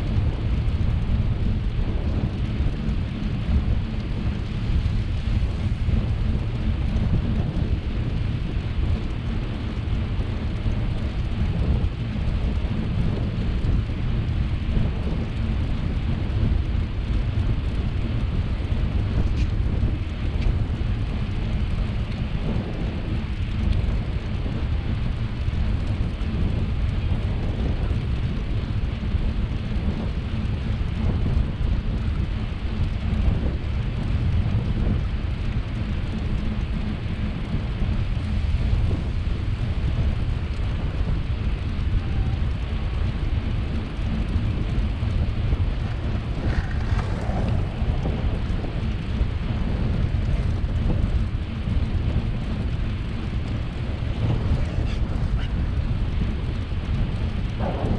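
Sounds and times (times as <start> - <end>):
tyres rolling on paved path: 0.0 - 57.9
wind rumbling on microphone: 0.0 - 57.9.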